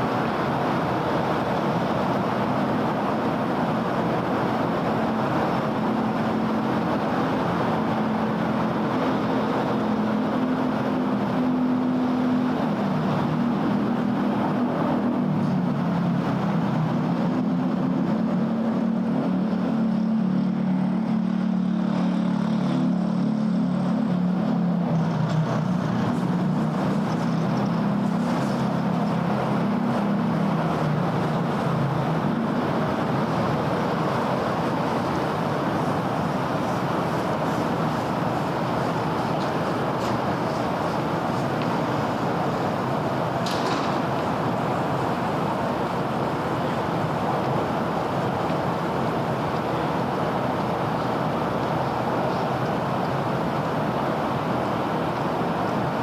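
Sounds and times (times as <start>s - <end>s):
low engine hum: 0.0s - 56.0s
passing cars rumbling: 0.0s - 56.0s.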